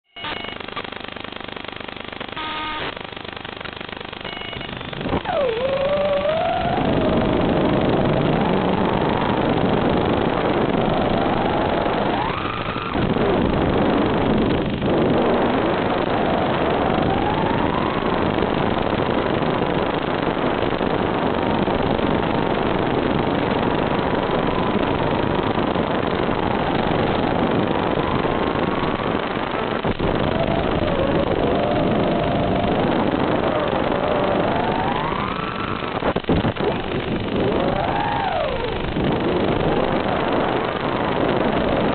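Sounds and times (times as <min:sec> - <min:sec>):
drone motors buzzing whine: 0:00.1 - 0:41.9.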